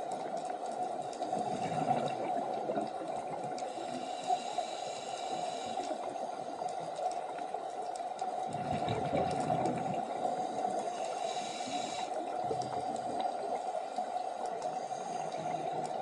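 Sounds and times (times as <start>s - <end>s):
underwater bubbling and gurgling: 0.0s - 16.0s.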